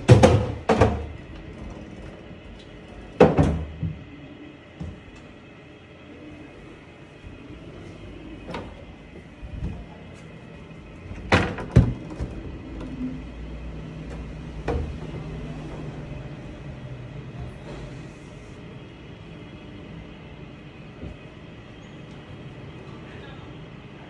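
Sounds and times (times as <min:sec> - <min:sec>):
panel rolling on track rumble: 0:00.0 - 0:24.0.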